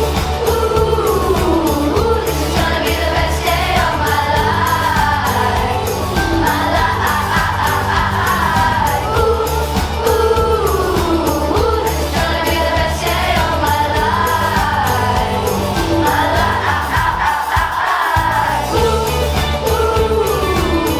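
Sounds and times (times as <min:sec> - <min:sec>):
song with vocals and beat: 0:00.0 - 0:20.9.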